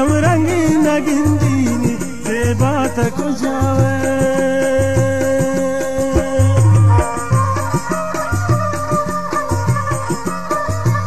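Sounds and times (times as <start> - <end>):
drum beat: 0.1 - 10.0
sustained instrumental melody: 0.1 - 11.0.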